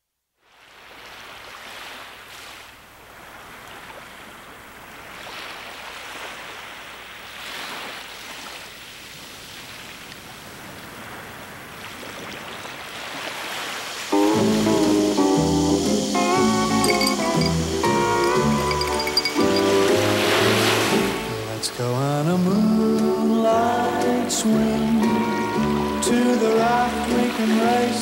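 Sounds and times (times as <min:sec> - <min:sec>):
ocean waves washing in: 0:00.4 - 0:28.0.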